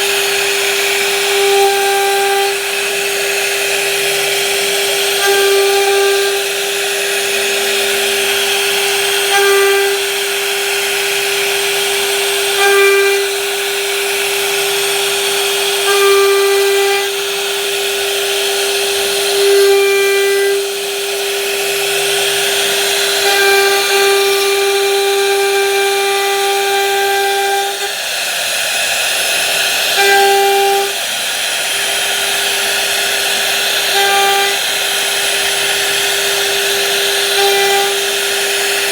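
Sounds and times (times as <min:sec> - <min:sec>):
electric power tool whining: 0:00.0 - 0:38.9.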